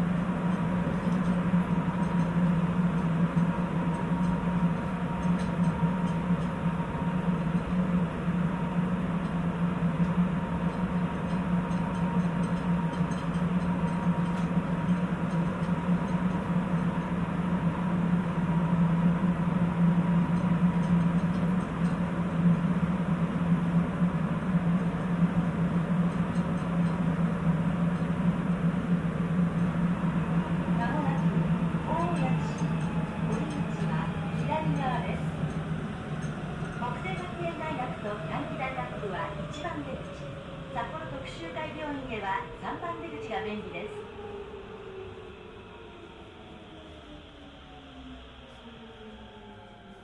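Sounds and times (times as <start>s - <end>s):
metro train rolling hum: 0.0s - 50.0s.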